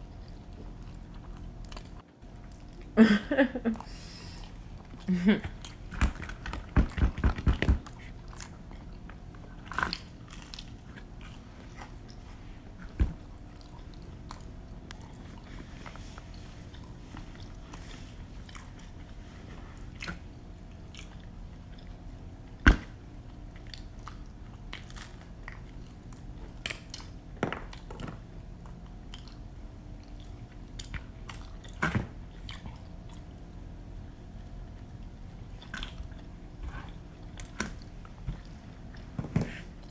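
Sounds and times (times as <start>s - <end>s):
chewing and crunching pizza: 0.0s - 3.0s, 4.4s - 39.9s
steady low hum: 0.0s - 39.9s.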